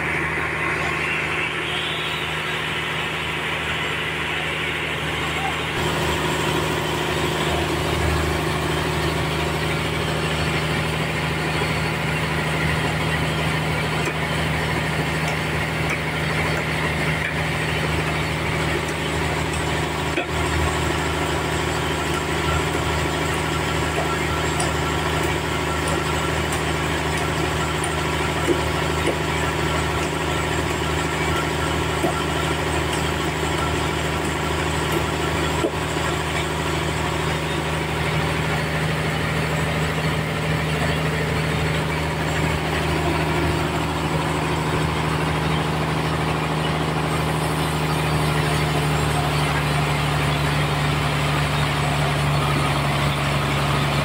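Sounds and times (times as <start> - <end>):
sawmill engine humming: 0.0 - 54.0.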